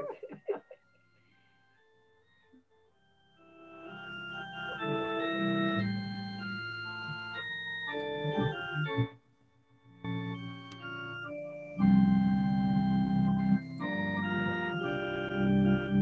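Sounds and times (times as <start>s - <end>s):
organ playing a hymn: 1.0s - 9.2s, 9.8s - 16.0s.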